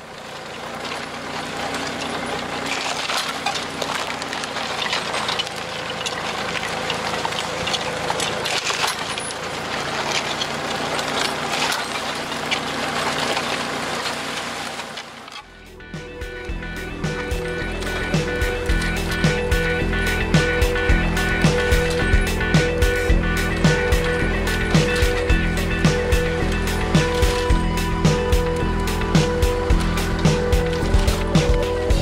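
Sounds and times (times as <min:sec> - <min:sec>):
tractor engine running: 0:00.0 - 0:32.0
discs cutting through soil: 0:00.1 - 0:15.5, 0:16.8 - 0:32.0.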